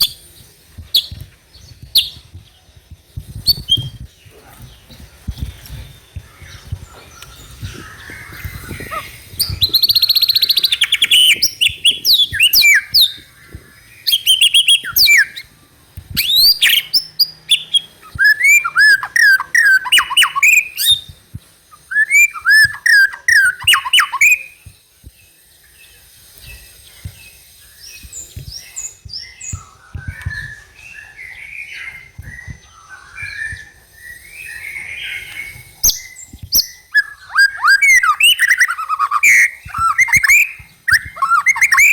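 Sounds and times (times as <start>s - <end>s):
bird whistled song: 0.0s - 41.9s.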